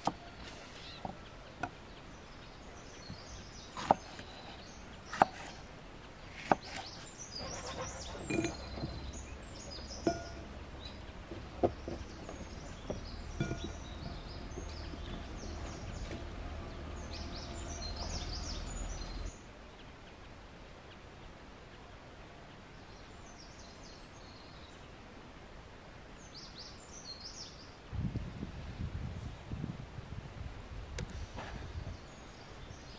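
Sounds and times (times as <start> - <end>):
small birds chirping: 0.0 - 25.0, 31.0 - 32.9.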